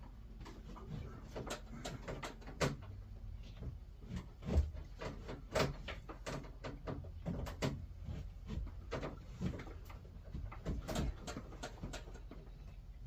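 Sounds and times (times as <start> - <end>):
clicks knocks and scraping: 0.0 - 12.9.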